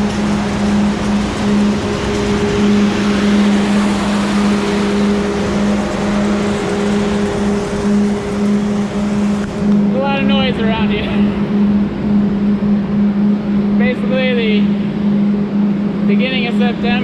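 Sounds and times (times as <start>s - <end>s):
heavy farm machinery droning: 0.0s - 17.0s.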